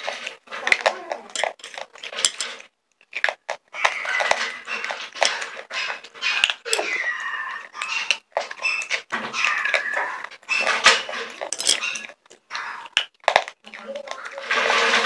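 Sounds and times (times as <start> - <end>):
crunching and chewing: 0.0 - 15.0.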